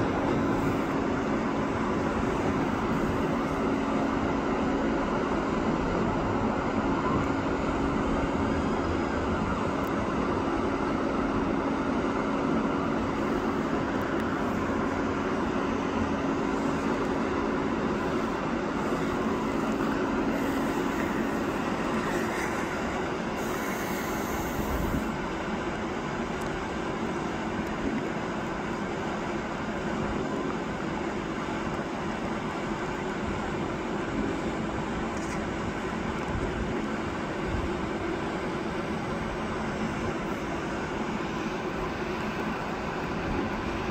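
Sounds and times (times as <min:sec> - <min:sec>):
train humming and rumbling: 0:00.0 - 0:43.9.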